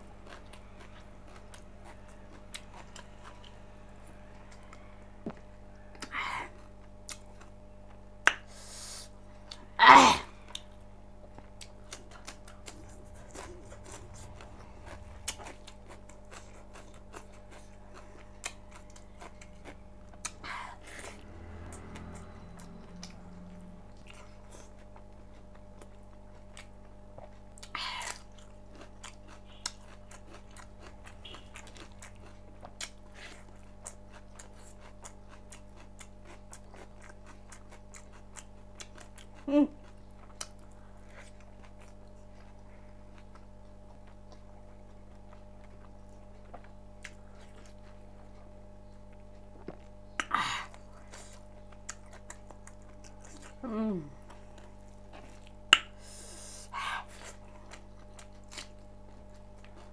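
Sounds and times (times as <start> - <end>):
person chewing food: 0.0 - 59.9
steady low hum: 0.0 - 59.9.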